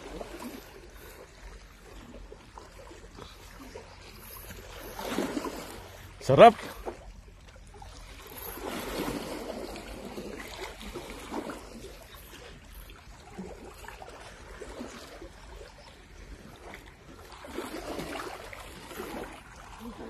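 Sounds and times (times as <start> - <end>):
waves lapping against rocks: 0.0 - 20.0.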